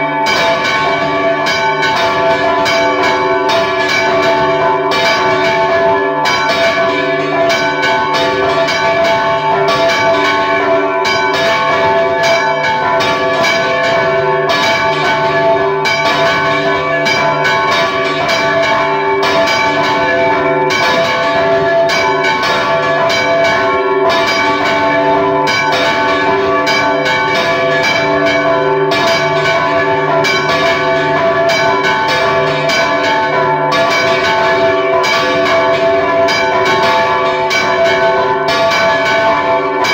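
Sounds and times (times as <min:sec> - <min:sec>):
church bells ringing rapidly: 0:00.0 - 0:39.9.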